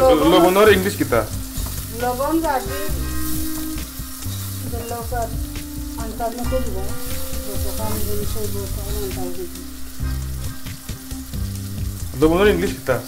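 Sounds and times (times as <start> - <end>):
food being stirred in pan: 0.0 - 12.2
food sizzling in hot oil: 0.0 - 13.0
melody with gliding notes: 0.0 - 13.0.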